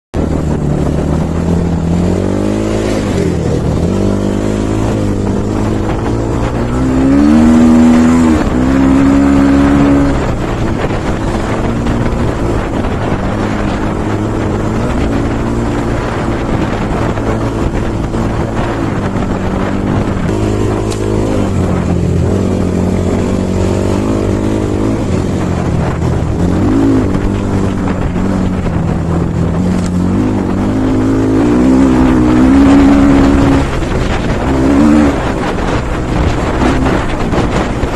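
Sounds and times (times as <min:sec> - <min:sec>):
dirt bike engine revving: 0:00.2 - 0:37.9.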